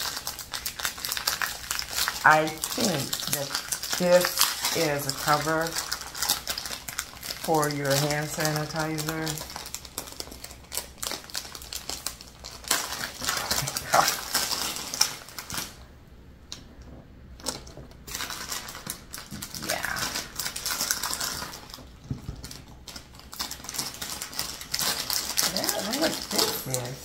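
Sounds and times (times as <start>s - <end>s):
plastic packaging crinkling: 0.0s - 15.9s, 16.5s - 27.0s.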